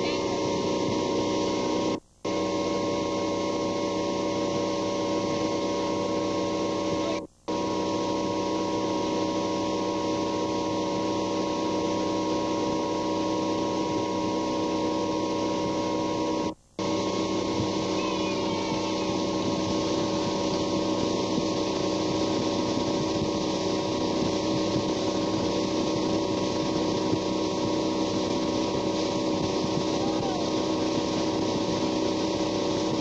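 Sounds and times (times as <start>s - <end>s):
motorboat engine droning: 0.0s - 33.0s
water noise: 0.0s - 33.0s
wind: 0.0s - 33.0s.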